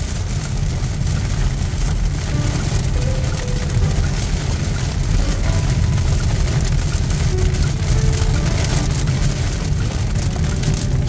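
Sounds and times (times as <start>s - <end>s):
engine and tyres on wet road: 0.0s - 11.0s
rain and tyre spray hiss: 0.0s - 11.0s.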